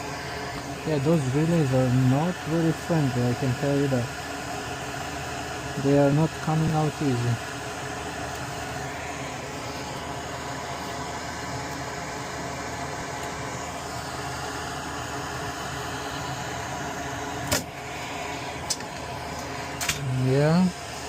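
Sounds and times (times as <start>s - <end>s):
extractor fan running: 0.0s - 21.0s.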